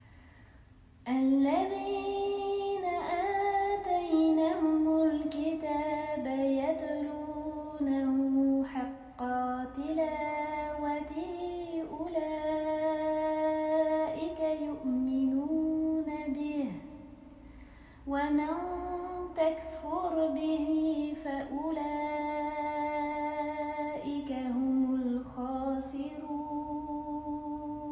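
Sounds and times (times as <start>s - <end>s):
woman chanting melodically: 1.0s - 17.1s, 18.1s - 27.9s.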